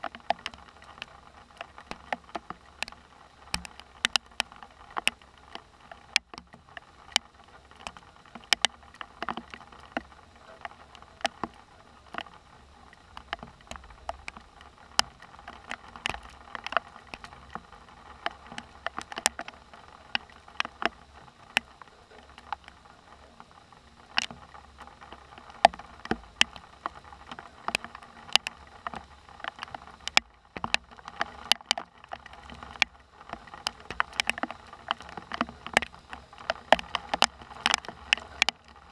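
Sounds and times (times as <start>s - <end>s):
faint hiss of rain: 0.0s - 38.9s
raindrops ticking on hard surface: 0.0s - 38.9s.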